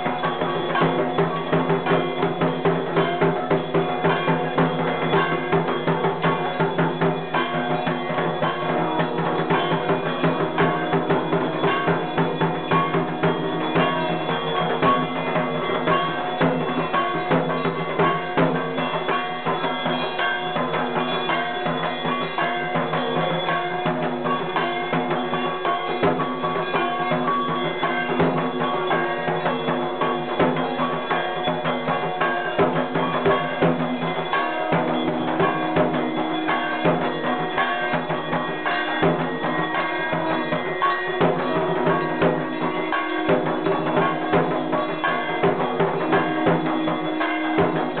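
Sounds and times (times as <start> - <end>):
clanging metal percussion: 0.0 - 48.0
fast drumming: 0.0 - 48.0.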